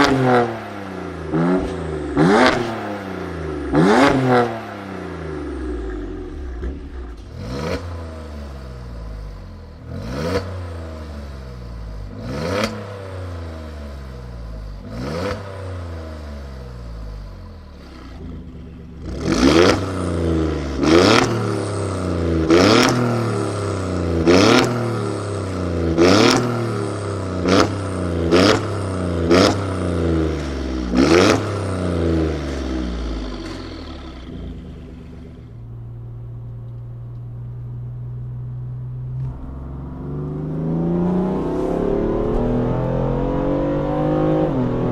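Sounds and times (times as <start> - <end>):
sports car engine revving: 0.0 - 44.9.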